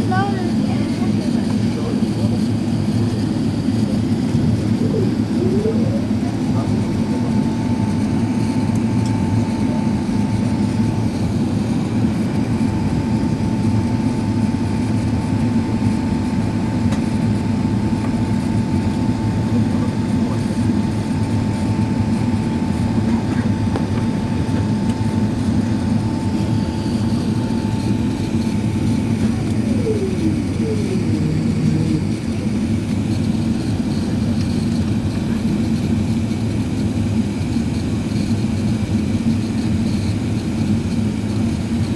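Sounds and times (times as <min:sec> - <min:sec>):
airplane cabin engine rumble: 0:00.0 - 0:41.9
steady whine: 0:00.0 - 0:41.9.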